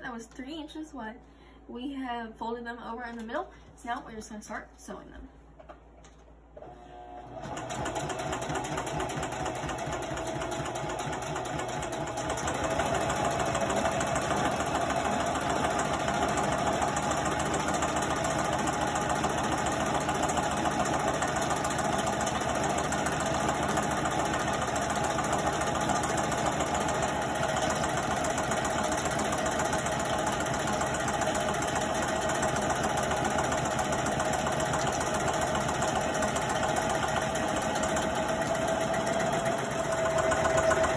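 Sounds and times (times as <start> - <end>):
sewing machine running: 6.7 - 40.9.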